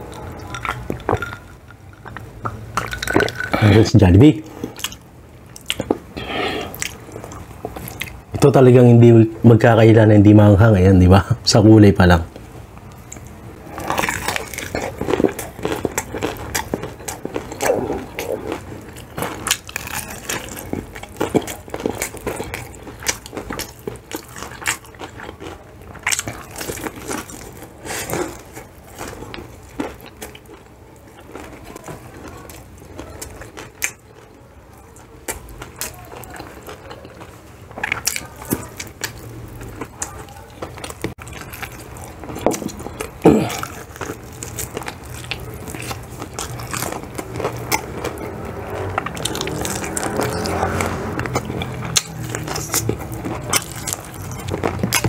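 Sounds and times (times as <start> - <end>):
person chewing crispy fried chicken: 0.0 - 3.8, 4.5 - 8.4, 12.9 - 55.0.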